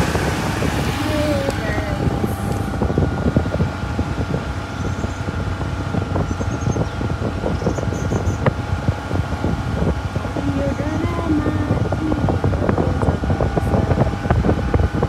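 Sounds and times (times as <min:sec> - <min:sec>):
steady low rumble: 0:00.0 - 0:15.0
thin steady whine: 0:00.0 - 0:15.0
wind buffeting microphone: 0:00.0 - 0:15.0.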